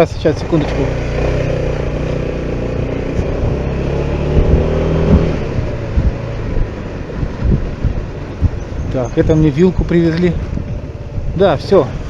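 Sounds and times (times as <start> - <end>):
low thumps: 0.0 - 12.0
scooter engine running: 0.0 - 12.0.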